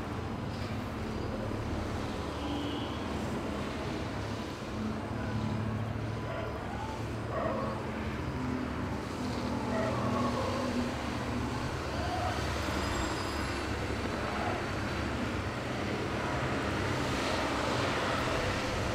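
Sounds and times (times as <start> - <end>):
road traffic rumble: 0.0 - 18.9.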